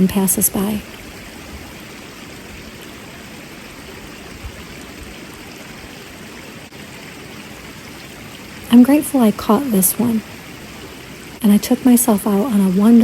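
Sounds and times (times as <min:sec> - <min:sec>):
forest stream flowing: 0:00.0 - 0:13.0.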